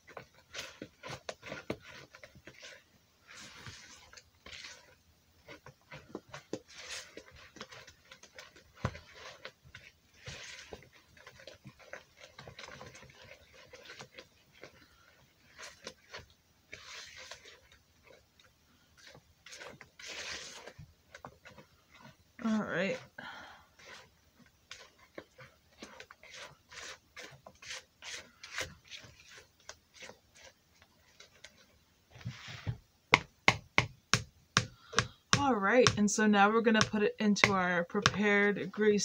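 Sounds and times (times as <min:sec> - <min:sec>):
utensil scraping plastic bowl: 0:00.0 - 0:32.8.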